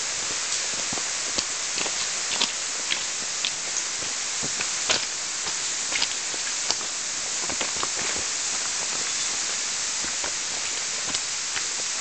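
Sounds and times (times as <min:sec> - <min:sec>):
footsteps on stony path: 0:00.0 - 0:12.0
steady high hiss: 0:00.0 - 0:12.0.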